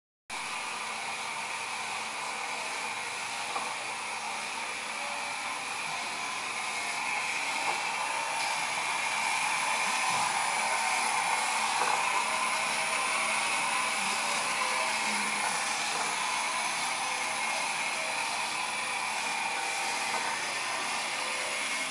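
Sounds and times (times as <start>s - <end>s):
labelling machine whirring: 0.6s - 21.9s.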